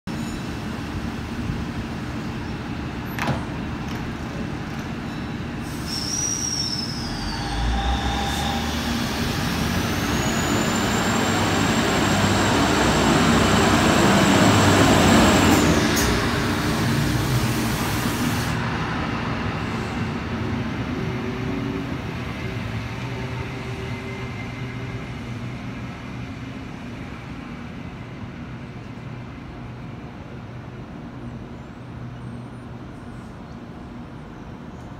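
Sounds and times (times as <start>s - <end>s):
diesel railcar pulling away: 0.1s - 34.9s.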